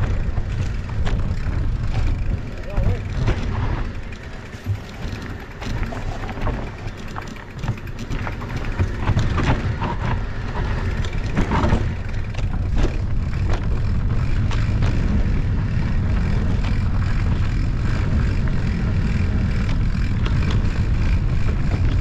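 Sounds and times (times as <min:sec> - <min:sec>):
bike rattles and knocks: 0:00.0 - 0:22.0
bike tyre noise: 0:00.0 - 0:22.0
wind buffeting microphone: 0:00.0 - 0:22.0.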